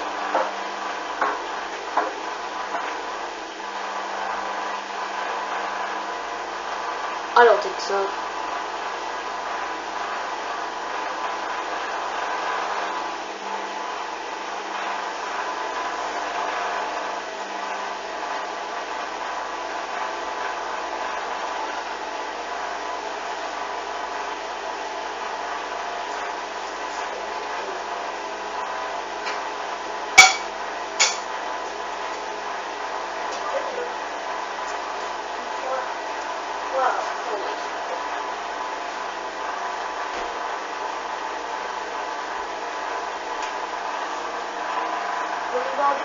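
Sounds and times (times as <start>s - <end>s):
washing machine spinning: 0.0s - 46.0s.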